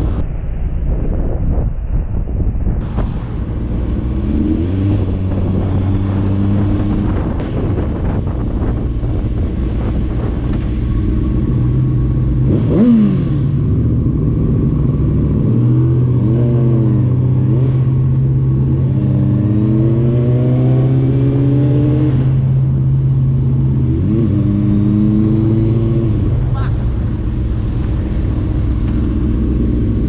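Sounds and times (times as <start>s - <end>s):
motorcycle engine drone: 0.0s - 30.0s
road noise: 0.0s - 30.0s.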